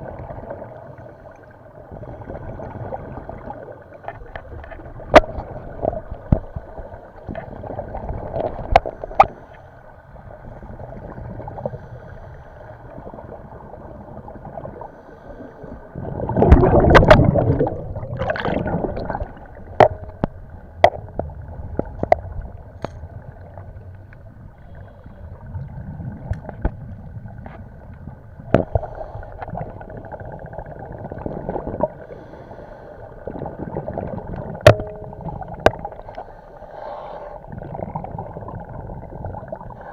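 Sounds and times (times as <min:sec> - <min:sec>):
underwater bubbling gush: 0:00.0 - 0:36.5, 0:37.2 - 0:39.9
faint underwater drone: 0:00.0 - 0:39.9.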